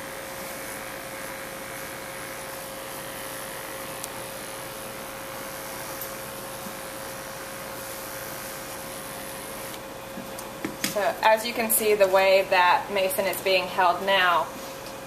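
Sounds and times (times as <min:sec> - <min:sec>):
electric pet clippers humming: 0:00.0 - 0:15.0.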